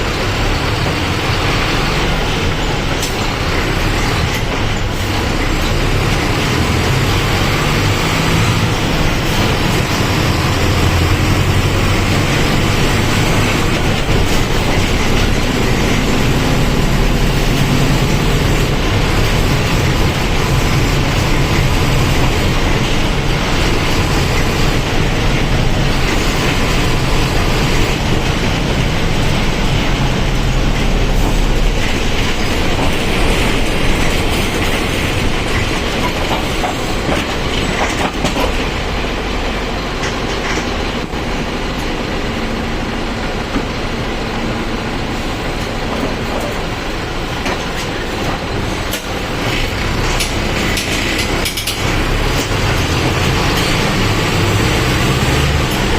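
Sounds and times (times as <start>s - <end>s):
bus body rattling and clicking: 0.0s - 55.9s
diesel bus engine running: 0.0s - 55.9s.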